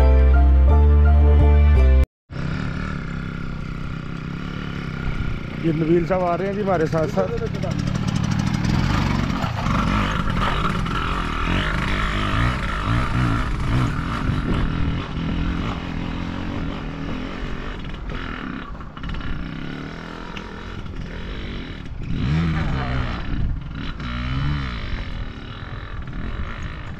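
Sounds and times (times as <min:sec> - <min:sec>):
small motorcycle engine running: 0:02.3 - 0:26.9.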